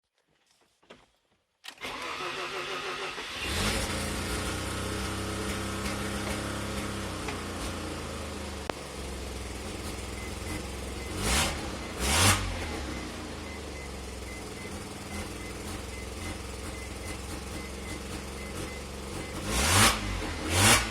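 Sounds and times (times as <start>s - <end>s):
rotary engine cranking and idling: 1.7s - 20.9s
engine revving: 1.8s - 20.9s.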